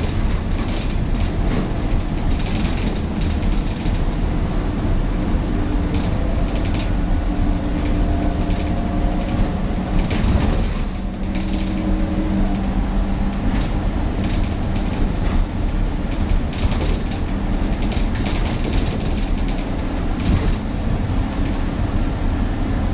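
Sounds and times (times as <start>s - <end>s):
bus body creaking and rattling: 0.0s - 22.9s
bus engine and road rumble: 0.0s - 22.9s.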